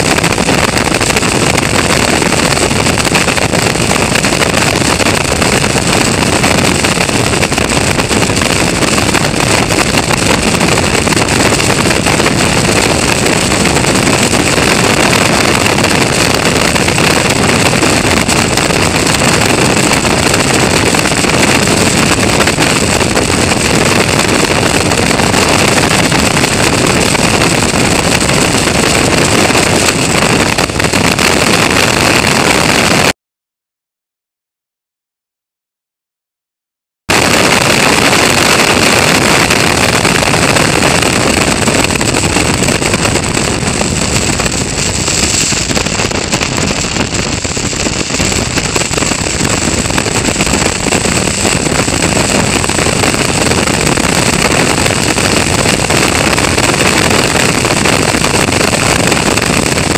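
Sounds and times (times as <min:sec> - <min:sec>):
wind buffeting microphone: 0:00.0 - 0:33.2, 0:37.1 - 0:59.9.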